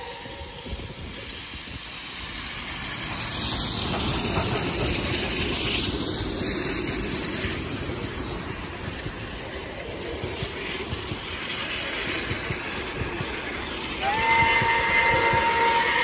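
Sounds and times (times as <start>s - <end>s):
hiss of steam: 0.0s - 16.0s
steam locomotives running past: 0.0s - 16.0s.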